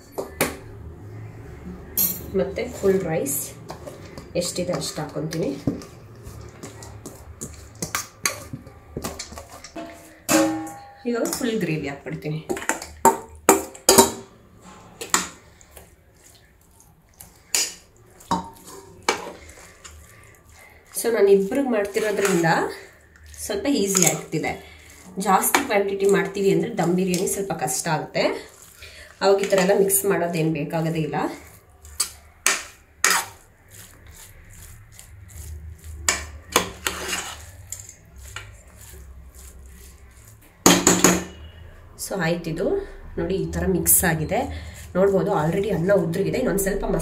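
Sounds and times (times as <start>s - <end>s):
spatula mixing in pot: 0.0s - 47.0s.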